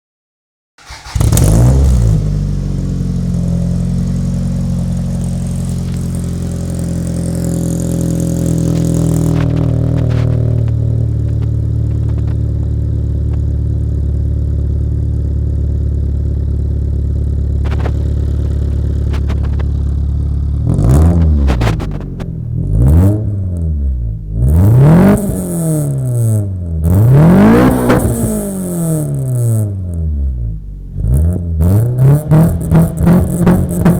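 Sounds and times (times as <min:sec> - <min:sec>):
car engine idling and revving: 0:00.8 - 0:33.9.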